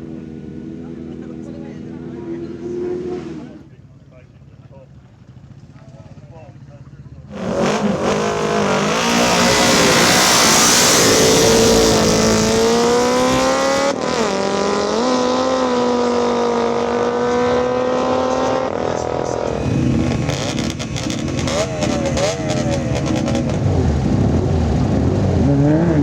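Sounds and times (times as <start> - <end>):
motorcycle engine at full throttle: 0.0 - 26.0.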